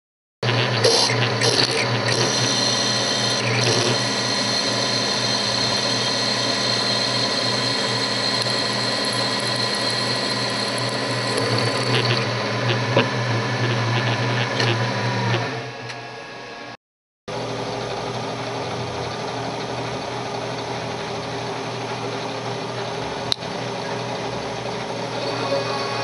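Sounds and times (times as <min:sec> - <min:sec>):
milling machine drilling hum: 0:00.4 - 0:26.0.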